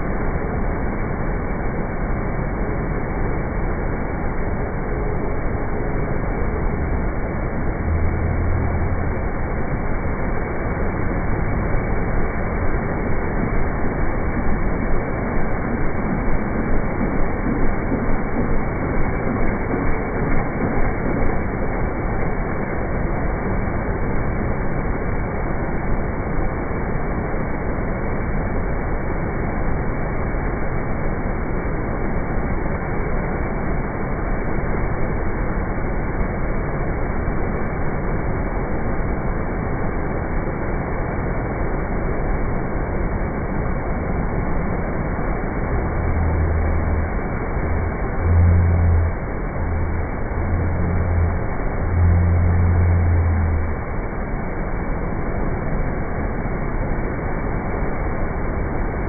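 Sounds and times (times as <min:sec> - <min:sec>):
floodwater roaring through gates: 0:00.0 - 0:59.0
low hum: 0:00.0 - 0:59.0.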